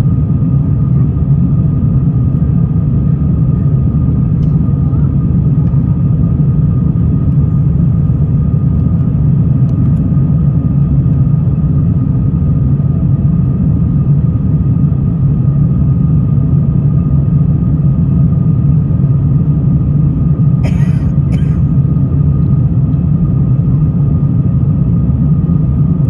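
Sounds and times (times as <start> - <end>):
airliner cabin engine roar: 0.0 - 26.0.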